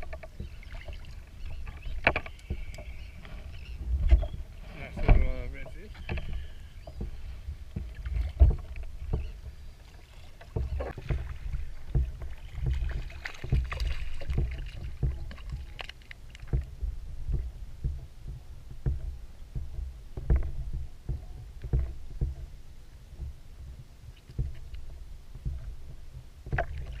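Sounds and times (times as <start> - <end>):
low rumble: 0.0 - 27.0
waves slapping a plastic hull: 0.0 - 27.0.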